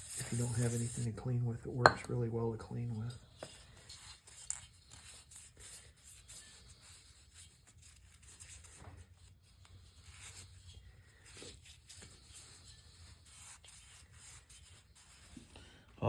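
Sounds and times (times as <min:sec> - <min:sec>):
rubbing and scraping on engine parts: 0:00.0 - 0:15.6.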